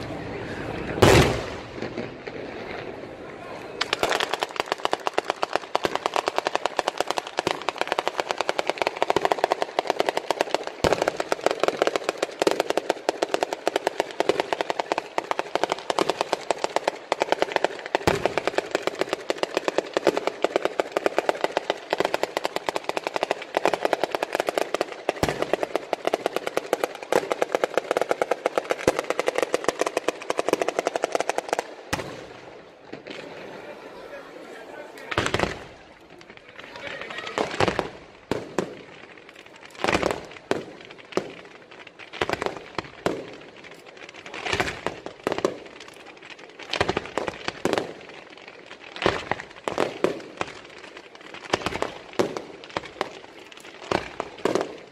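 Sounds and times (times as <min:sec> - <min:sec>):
firecrackers crackling: 0:00.0 - 0:54.9
firework bangs: 0:00.0 - 0:54.9.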